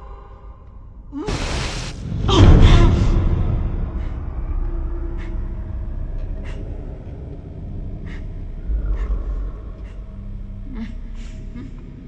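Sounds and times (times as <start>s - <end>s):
low rumble with faint hum: 2.0s - 12.0s.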